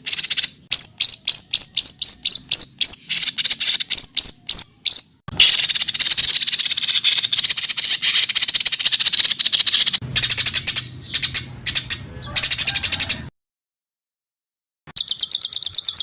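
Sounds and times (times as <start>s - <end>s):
songbird rattling trill: 0.0s - 13.3s, 14.9s - 16.0s.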